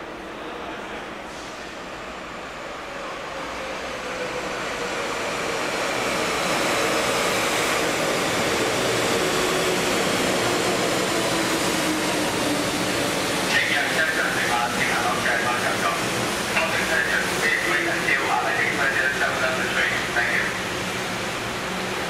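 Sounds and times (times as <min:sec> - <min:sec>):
metro train rushing rumble: 0:00.0 - 0:22.0.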